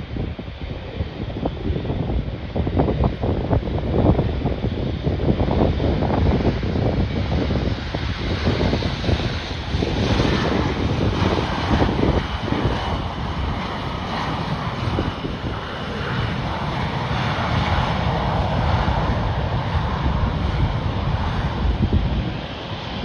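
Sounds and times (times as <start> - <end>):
airliner engines running: 0.0 - 23.0
wind rumbling on microphone: 0.0 - 23.0.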